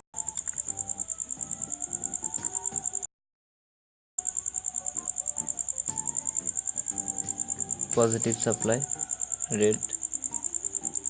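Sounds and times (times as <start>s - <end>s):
cricket chirping: 0.2s - 3.1s, 4.2s - 11.0s
faint background music: 0.2s - 3.1s, 4.2s - 11.0s.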